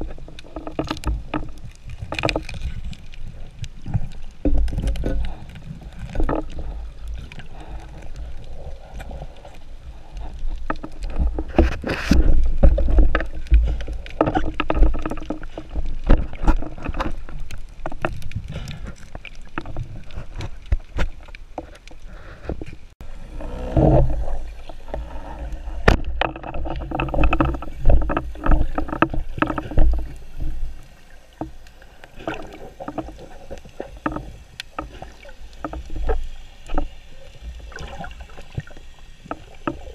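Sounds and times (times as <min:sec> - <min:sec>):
muffled underwater water movement: 0:00.0 - 0:39.9.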